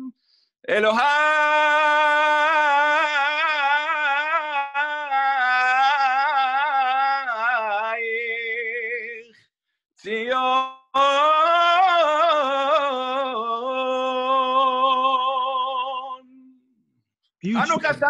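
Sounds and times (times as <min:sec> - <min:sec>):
man singing unaccompanied: 0:00.6 - 0:09.4, 0:10.0 - 0:16.4.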